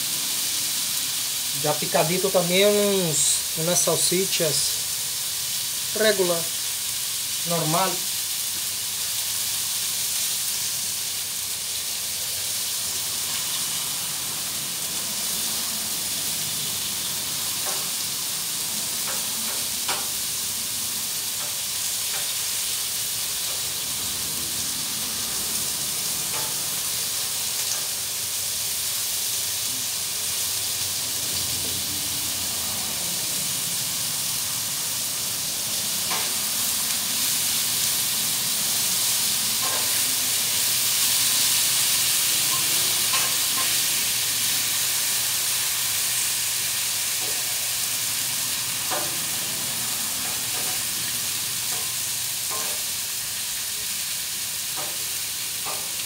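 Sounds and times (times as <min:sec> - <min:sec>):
meat sizzling on a griddle: 0:00.0 - 0:56.0.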